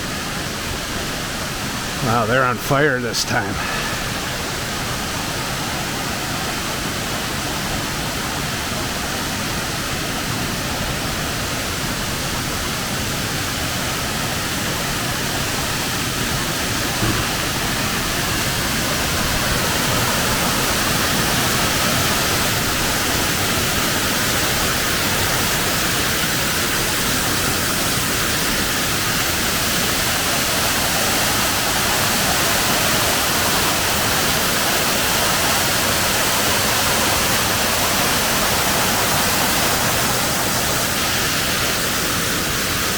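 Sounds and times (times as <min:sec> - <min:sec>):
waterfall rushing: 0:02.8 - 0:11.5, 0:14.7 - 0:42.9.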